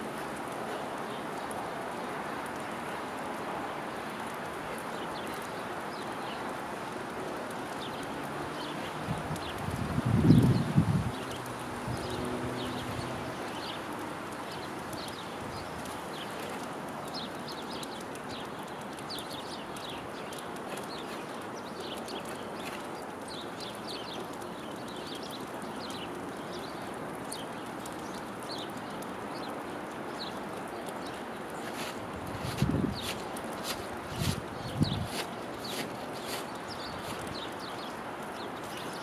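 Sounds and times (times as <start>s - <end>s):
small birds chirping: 3.7s - 39.0s.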